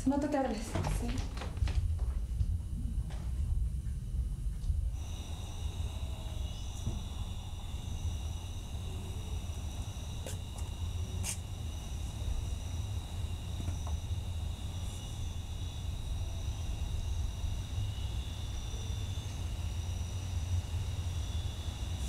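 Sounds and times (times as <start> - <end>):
low steady rumble: 0.0 - 22.0
crickets trilling: 4.3 - 22.0.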